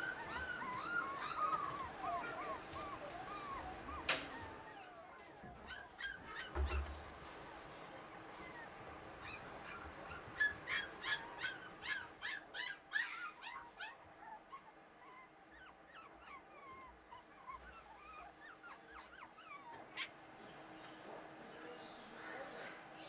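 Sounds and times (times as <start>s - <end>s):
puppies whimpering: 0.0s - 23.0s
puppies yipping: 0.0s - 23.0s.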